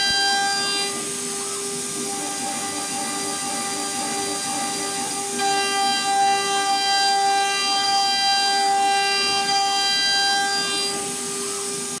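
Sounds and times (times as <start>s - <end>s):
milling spindle whine: 0.0s - 12.0s.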